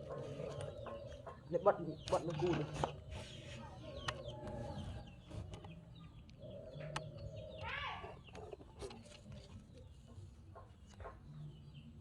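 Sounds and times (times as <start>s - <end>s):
chicken clucking: 0.0s - 11.9s.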